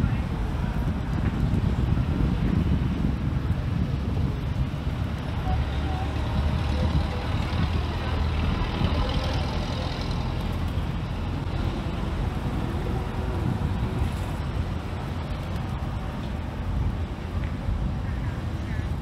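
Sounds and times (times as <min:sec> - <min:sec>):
urban traffic rumble: 0:00.0 - 0:19.0.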